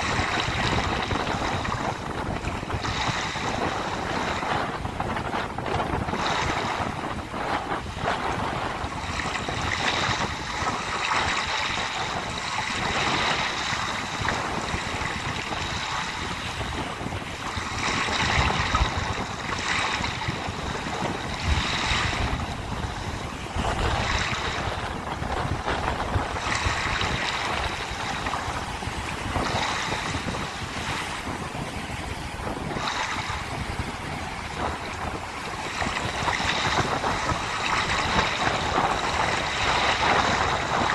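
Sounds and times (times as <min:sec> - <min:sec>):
sea waves breaking: 0:00.0 - 0:40.9
wind buffeting microphone: 0:00.0 - 0:40.9.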